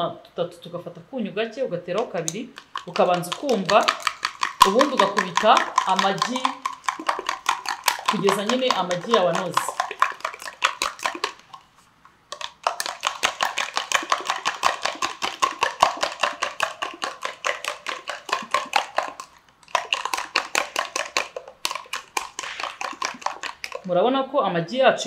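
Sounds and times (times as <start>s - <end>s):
fork beating eggs in a cup: 1.9s - 23.9s.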